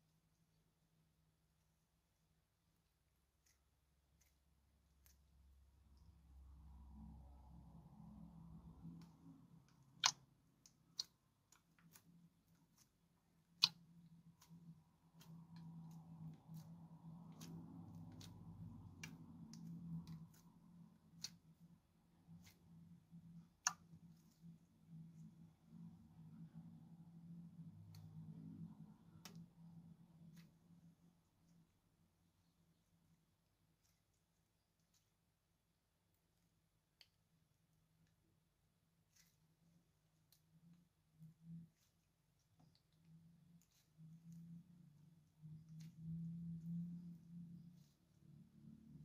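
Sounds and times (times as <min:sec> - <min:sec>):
faint low hum: 0:00.0 - 0:49.0.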